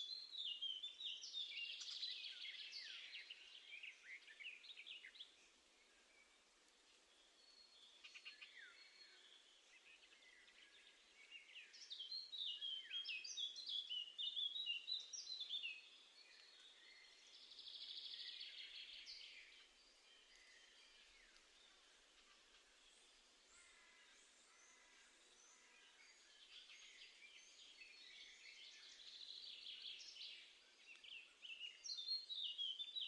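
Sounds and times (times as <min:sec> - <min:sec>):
songbirds singing and calling: 0:00.0 - 0:33.0.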